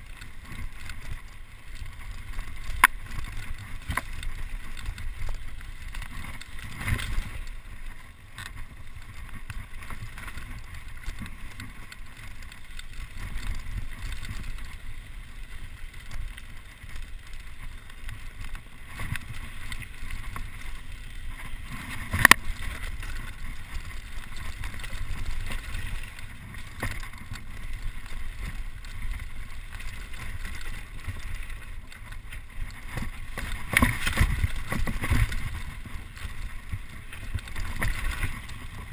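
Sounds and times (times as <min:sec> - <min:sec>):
bike clattering over stones: 0:00.0 - 0:38.9.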